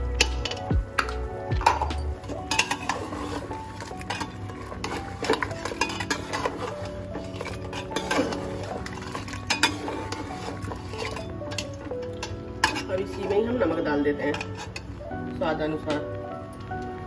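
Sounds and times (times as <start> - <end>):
metal ladle scraping pot: 0.0 - 15.0
soft background music: 0.0 - 17.0.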